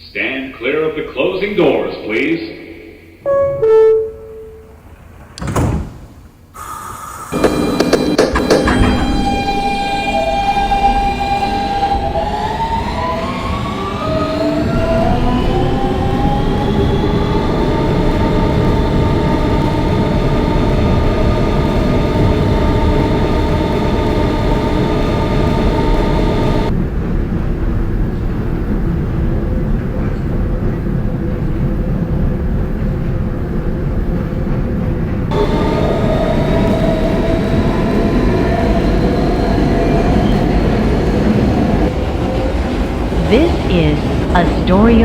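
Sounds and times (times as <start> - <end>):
subway traction motor whine: 6.4 - 45.0
rumble of wheels on rail: 7.2 - 45.0.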